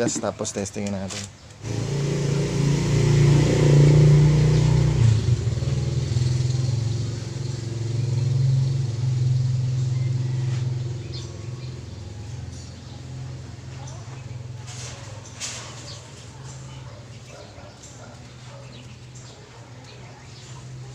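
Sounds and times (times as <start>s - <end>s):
motorcycle engine revving: 1.6s - 20.9s.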